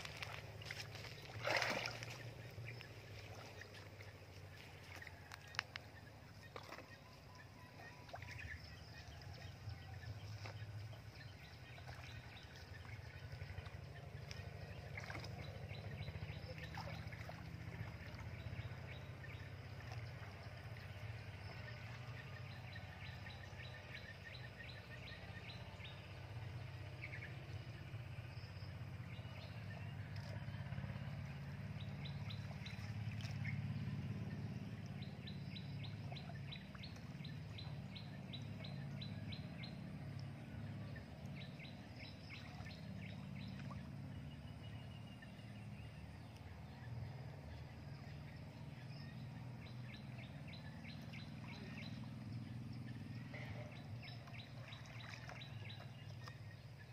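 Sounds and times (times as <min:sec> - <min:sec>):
water sloshing: 0:00.0 - 0:24.0, 0:29.0 - 0:48.4, 0:49.1 - 0:56.9
low steady rumble: 0:00.0 - 0:56.9.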